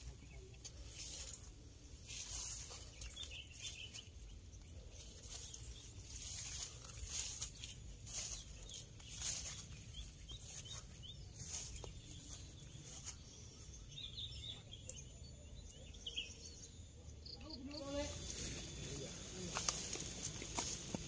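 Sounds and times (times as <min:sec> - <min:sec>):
bird chirps: 0:02.1 - 0:21.0.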